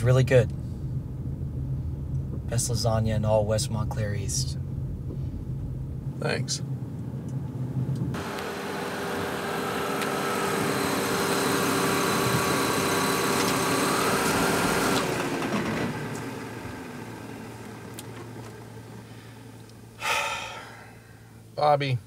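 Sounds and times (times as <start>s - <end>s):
minivan engine and road noise: 0.0s - 22.0s.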